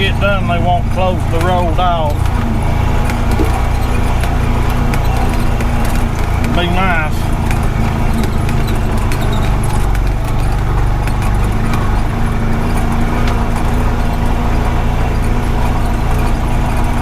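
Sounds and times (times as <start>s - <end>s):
light rattles and clicks: 0.0s - 17.0s
utility vehicle engine running: 0.0s - 17.0s.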